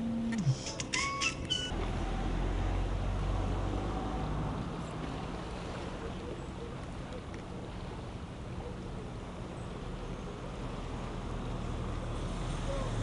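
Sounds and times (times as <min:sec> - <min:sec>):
boat motor humming: 0:00.0 - 0:13.0
wind and water noise: 0:00.0 - 0:13.0.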